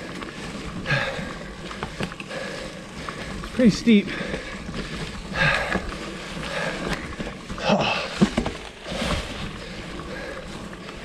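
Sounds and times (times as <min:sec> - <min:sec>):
tyres rolling on dry leaves: 0:00.0 - 0:11.0
person breathing hard: 0:00.3 - 0:11.0.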